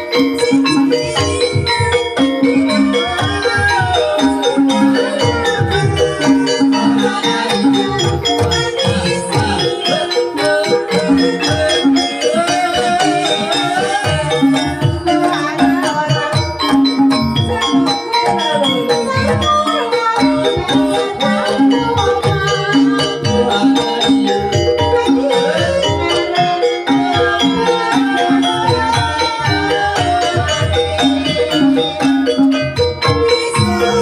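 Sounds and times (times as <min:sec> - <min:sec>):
gamelan music: 0:00.0 - 0:34.0
steady dense percussion: 0:00.0 - 0:34.0
wavering melodic line: 0:00.0 - 0:34.0.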